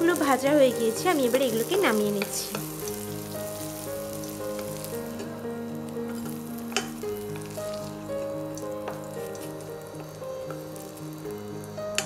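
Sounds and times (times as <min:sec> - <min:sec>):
background music with melody: 0:00.0 - 0:12.0
hot oil sizzling: 0:00.0 - 0:12.0.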